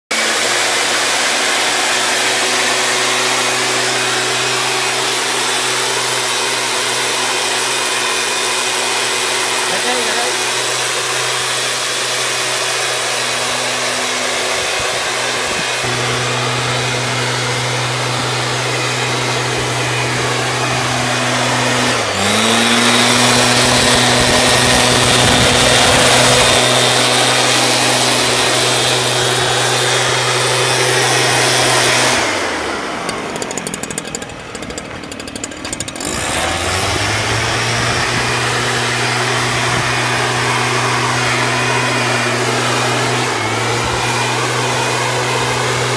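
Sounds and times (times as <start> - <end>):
mist blower engine running: 0.1 - 45.9.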